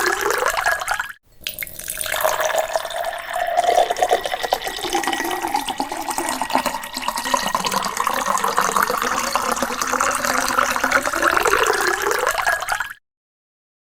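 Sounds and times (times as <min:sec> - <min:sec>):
water pouring into a glass: 0:00.0 - 0:13.0.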